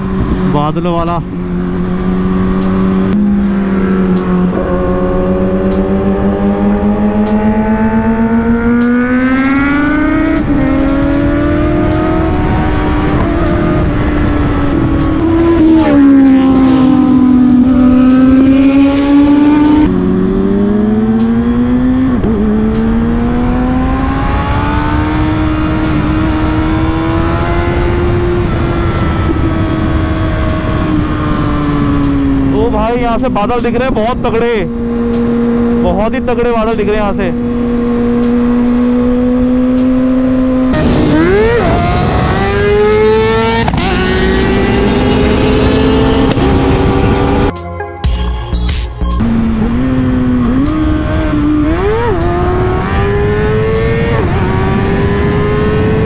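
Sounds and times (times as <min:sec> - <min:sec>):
motorcycle engine accelerating: 0:00.0 - 0:47.6, 0:49.0 - 0:56.0.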